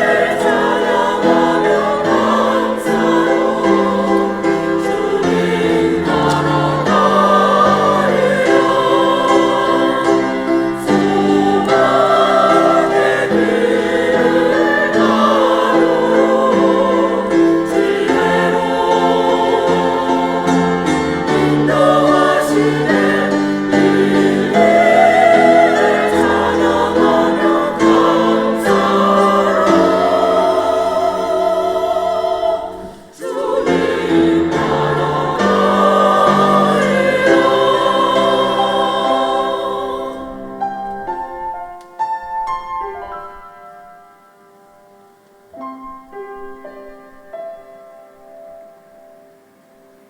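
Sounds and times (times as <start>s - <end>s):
choir singing a hymn: 0.0s - 41.6s
sparse piano notes: 0.0s - 50.0s.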